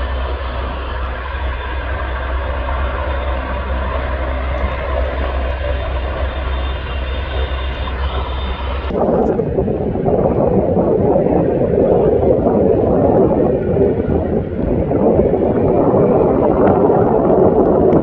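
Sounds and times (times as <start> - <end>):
helicopter turbine whine: 0.0 - 18.0
loud rough rushing noise: 0.0 - 18.0.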